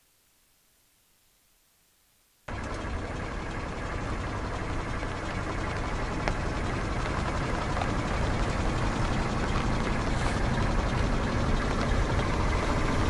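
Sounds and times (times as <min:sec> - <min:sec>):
car engine running: 0:02.5 - 0:13.0.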